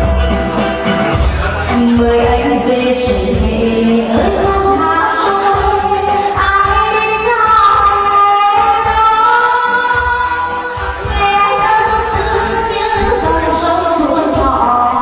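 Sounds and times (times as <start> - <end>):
backing track with low beat: 0.0 - 15.0
woman singing into a microphone: 1.7 - 15.0.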